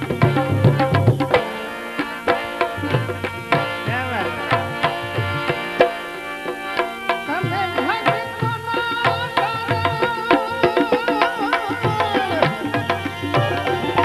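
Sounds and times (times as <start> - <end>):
held melody instrument notes: 0.0 - 14.0
tabla playing quick rhythm: 0.0 - 14.0.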